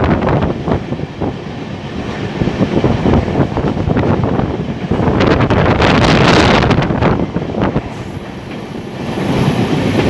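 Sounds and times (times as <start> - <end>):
train running rumble: 0.0 - 10.0
wind buffeting microphone: 0.0 - 10.0.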